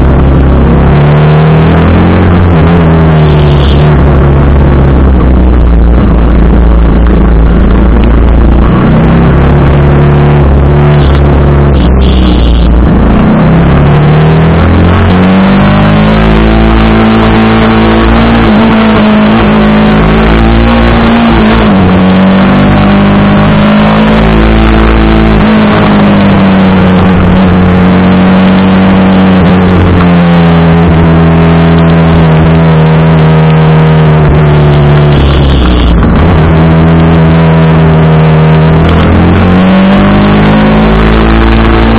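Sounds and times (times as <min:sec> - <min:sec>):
constant rushing noise: 0:00.0 - 0:41.9
motorcycle engine revving: 0:00.0 - 0:41.9.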